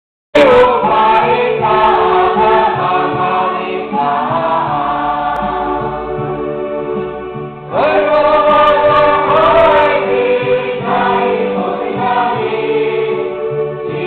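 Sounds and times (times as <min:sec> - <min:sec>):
congregation singing a hymn: 0:00.4 - 0:14.0.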